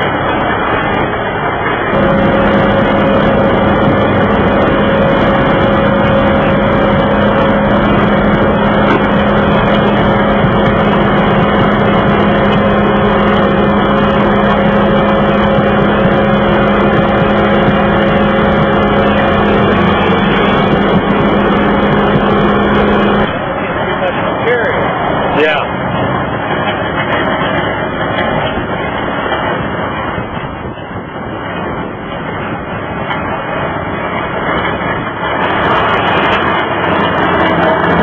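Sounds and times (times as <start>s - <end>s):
sweeper machine drone: 0.0s - 38.0s.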